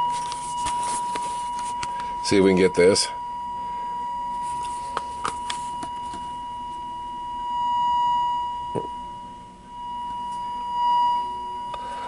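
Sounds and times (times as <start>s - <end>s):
steady test tone: 0.0s - 12.0s.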